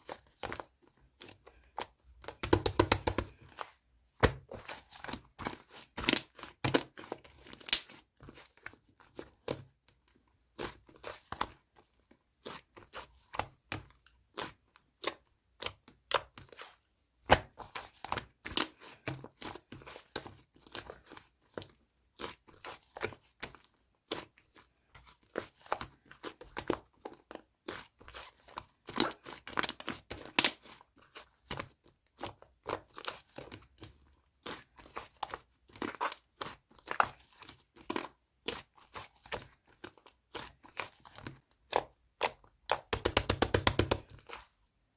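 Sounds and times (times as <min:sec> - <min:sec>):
sticky slime crackling: 0:00.0 - 0:09.6, 0:12.4 - 0:44.6.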